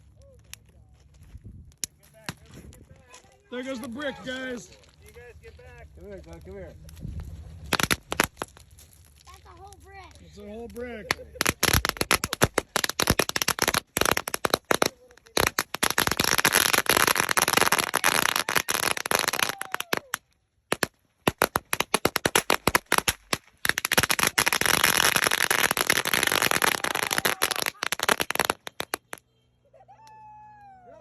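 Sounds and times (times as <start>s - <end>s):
firecrackers banging and crackling: 3.5s - 29.3s.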